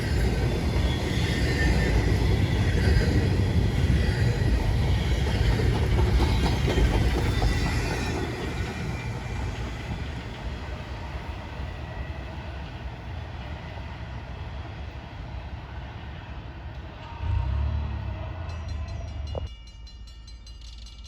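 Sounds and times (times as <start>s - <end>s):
freight train rumbling on rails: 0.0s - 19.5s.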